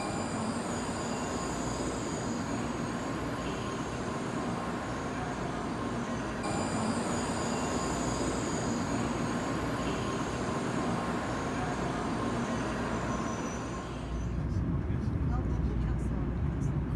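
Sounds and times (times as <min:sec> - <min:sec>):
faint steady hums: 0:00.0 - 0:16.9
high-speed train rumbling: 0:00.0 - 0:16.9.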